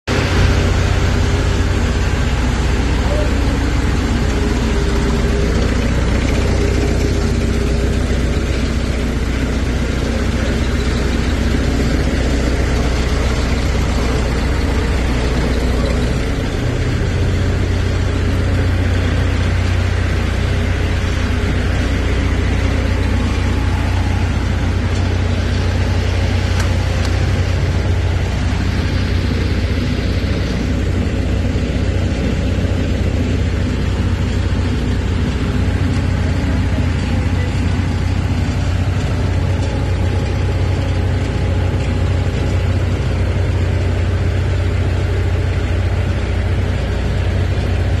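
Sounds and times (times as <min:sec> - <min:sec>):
skid steer engine idling: 0:00.1 - 0:48.0.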